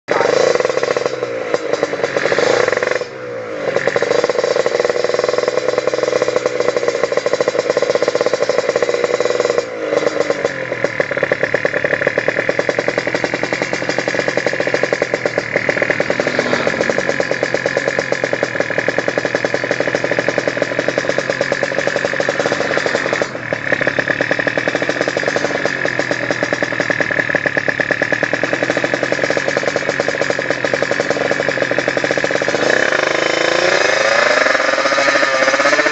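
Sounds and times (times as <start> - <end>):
motorcycle engine revving high: 0.0 - 35.9.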